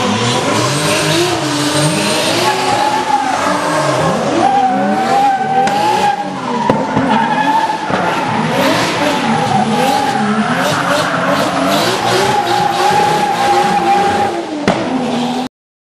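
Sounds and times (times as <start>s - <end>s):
car engine revving: 0.0s - 15.5s.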